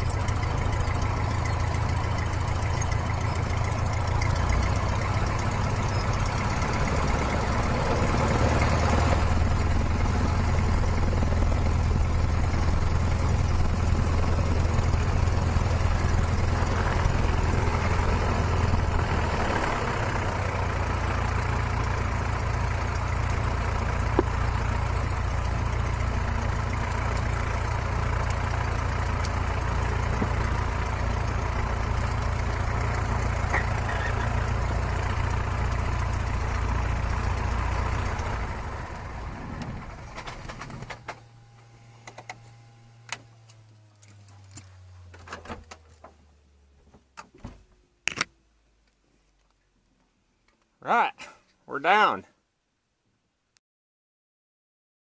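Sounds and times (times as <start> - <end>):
small plane engine droning: 0.0 - 46.9.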